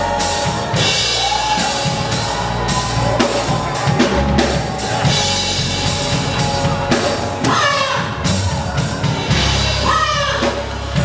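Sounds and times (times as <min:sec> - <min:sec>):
gospel band playing: 0:00.0 - 0:11.0
sustained keyboard chords: 0:00.0 - 0:11.0.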